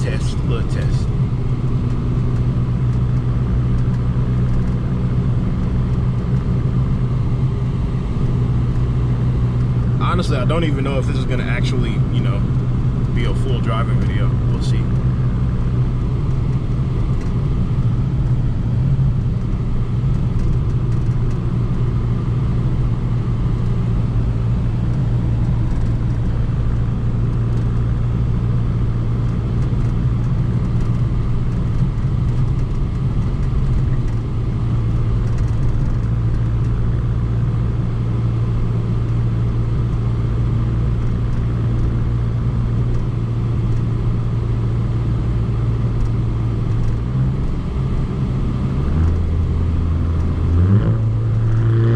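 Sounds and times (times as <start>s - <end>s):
car exhaust droning: 0.0s - 51.9s.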